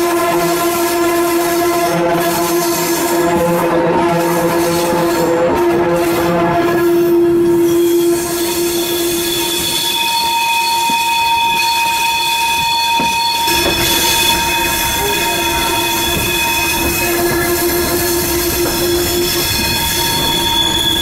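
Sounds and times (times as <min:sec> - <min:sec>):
steel wheels squealing on rails: 0:00.0 - 0:21.0
train rolling rumble: 0:00.0 - 0:21.0.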